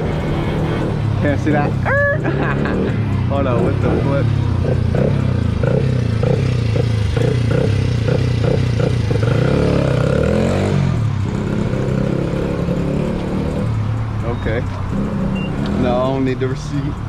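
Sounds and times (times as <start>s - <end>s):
two-stroke motorbike engine: 3.0s - 17.0s.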